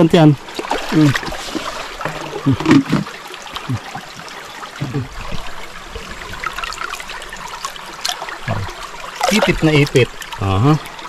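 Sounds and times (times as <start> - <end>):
shallow river water trickling: 0.0 - 11.0.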